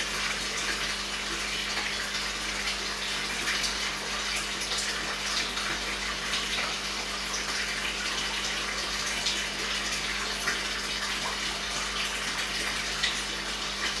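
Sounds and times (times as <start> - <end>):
water splashing into aquarium: 0.0 - 14.0.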